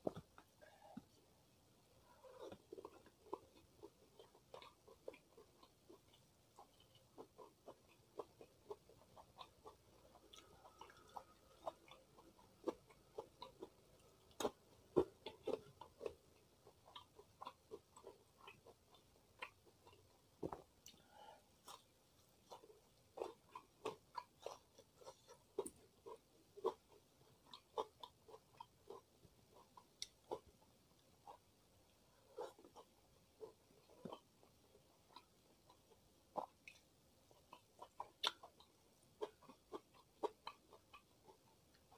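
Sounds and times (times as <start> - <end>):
person chewing crunchy food: 2.0 - 41.9.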